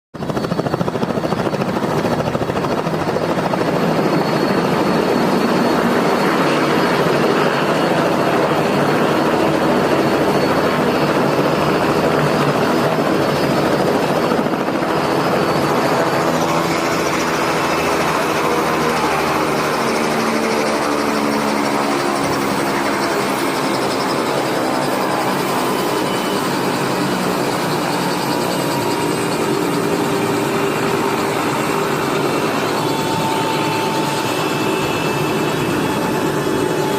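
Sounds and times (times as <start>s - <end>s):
helicopter rotor blades chopping: 0.2s - 36.9s
high turbine whine: 0.2s - 36.9s.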